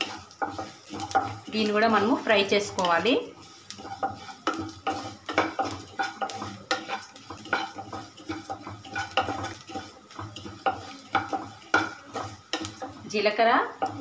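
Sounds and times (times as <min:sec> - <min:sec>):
seeds sizzling in oil: 0:00.0 - 0:14.0
spatula scraping and tapping pan: 0:00.0 - 0:14.0.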